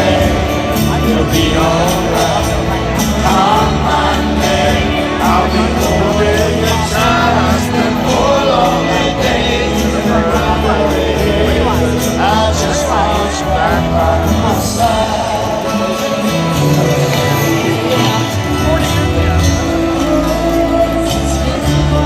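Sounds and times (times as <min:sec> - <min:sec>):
live band playing a ballad: 0:00.0 - 0:22.0
man singing: 0:00.0 - 0:22.0.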